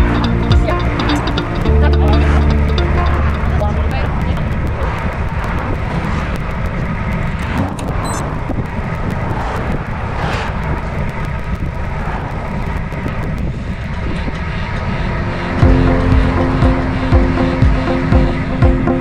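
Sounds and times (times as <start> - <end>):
wind buffeting microphone: 0.0 - 18.6
low rumble: 0.0 - 19.0.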